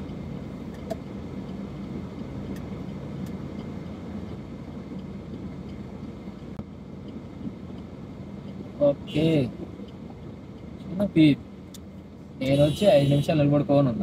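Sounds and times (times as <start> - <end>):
car idling hum from inside: 0.0 - 14.0.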